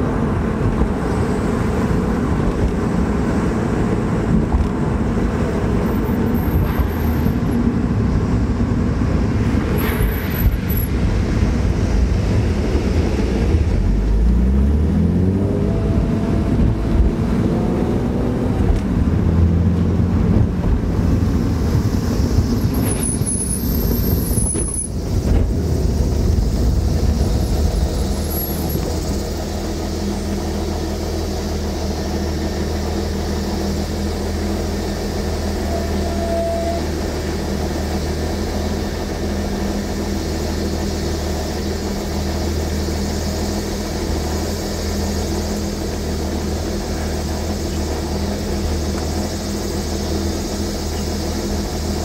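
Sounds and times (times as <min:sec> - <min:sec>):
car engine driving: 0:00.0 - 0:52.0
road noise: 0:00.0 - 0:52.0.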